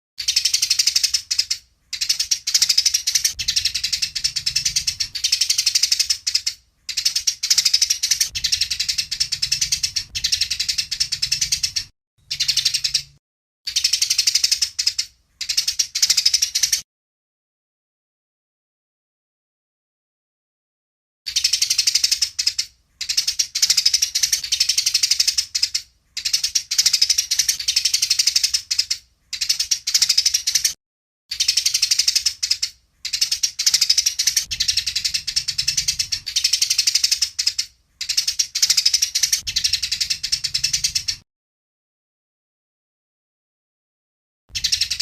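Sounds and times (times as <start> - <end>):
sparrow chattering: 0.2 - 16.8, 21.3 - 41.2, 44.5 - 45.0.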